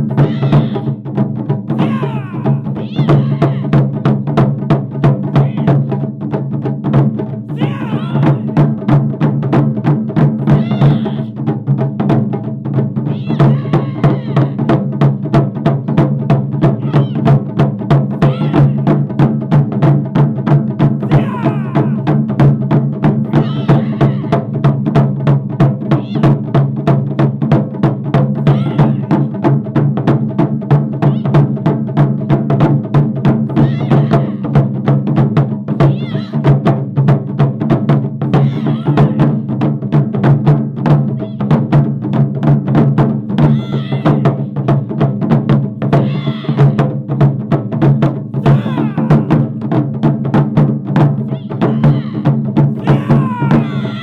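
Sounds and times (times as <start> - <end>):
taiko drums playing fast: 0.0 - 54.0.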